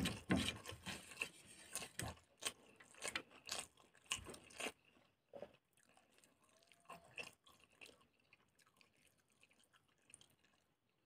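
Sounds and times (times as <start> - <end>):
chewing and wet mouth clicks: 1.0 - 10.8.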